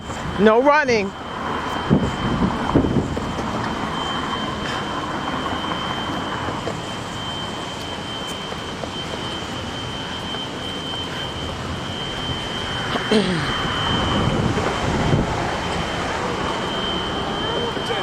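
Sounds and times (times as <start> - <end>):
thin high whine: 0.0 - 18.0
wind and rain rushing: 0.0 - 18.0.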